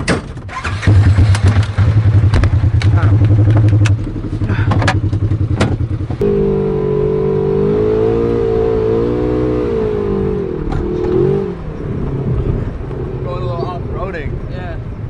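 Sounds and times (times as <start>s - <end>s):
atv engine revving: 0.5s - 14.3s.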